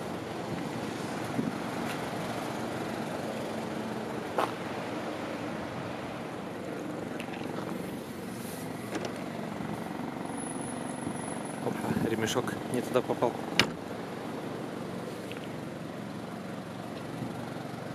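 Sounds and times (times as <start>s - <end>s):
low vehicle engine rumble: 0.0s - 17.9s.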